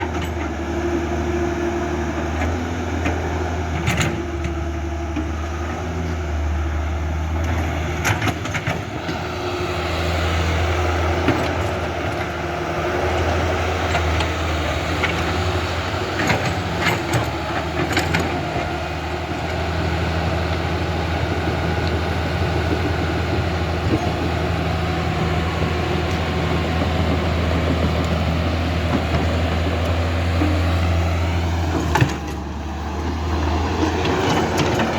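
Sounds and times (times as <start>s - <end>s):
low motor hum: 0.0s - 34.9s.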